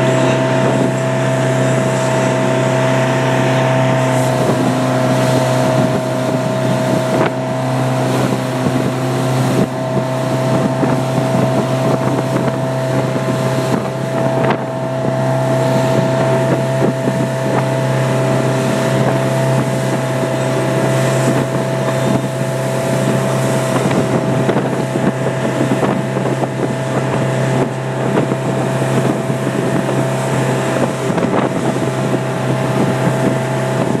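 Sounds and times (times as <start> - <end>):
motorboat engine droning: 0.0 - 34.0
wind buffeting the microphone: 0.0 - 34.0.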